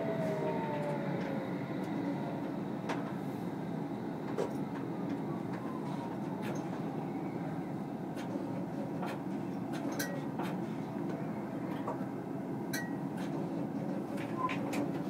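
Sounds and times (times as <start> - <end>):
train cab running noise: 0.0 - 15.0.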